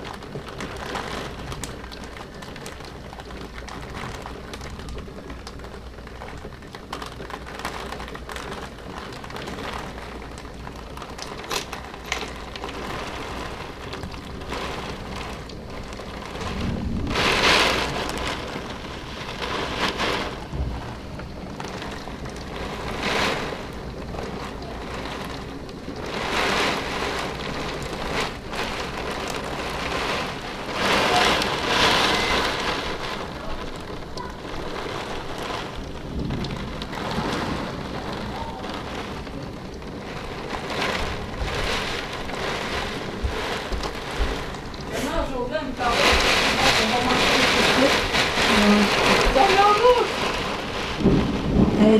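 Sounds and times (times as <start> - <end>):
gusting wind: 0.0 - 51.9
heavy rain against window: 0.0 - 51.9.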